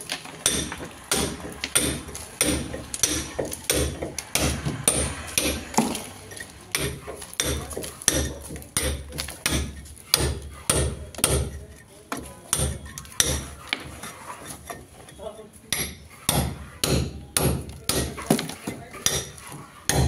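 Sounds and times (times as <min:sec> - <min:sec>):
hammer striking chisel on brick: 0:00.1 - 0:20.0.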